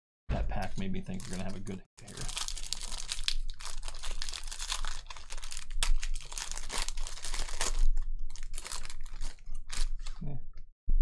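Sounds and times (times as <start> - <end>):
foil wrapper tearing and crinkling: 1.1 - 10.2.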